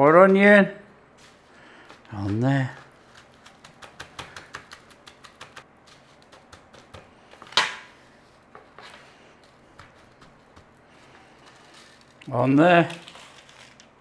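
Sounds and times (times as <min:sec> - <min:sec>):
fried onions crackling: 0:00.0 - 0:14.0.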